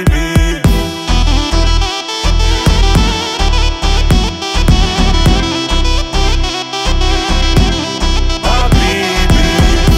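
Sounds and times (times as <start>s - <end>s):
music with steady beat: 0.0s - 9.9s
wind instrument melody: 0.7s - 9.9s.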